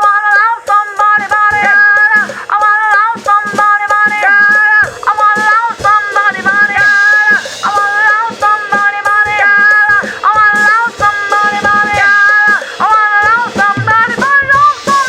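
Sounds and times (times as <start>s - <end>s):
shaker-like percussion: 0.0s - 15.0s
drum kit: 0.2s - 15.0s.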